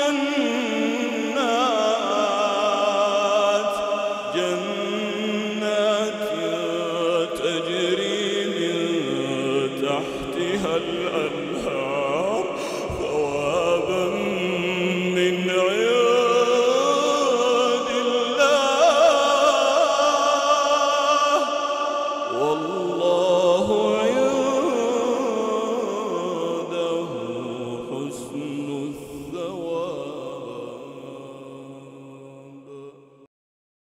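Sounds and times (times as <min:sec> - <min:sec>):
man chanting melodically: 0:00.0 - 0:33.0.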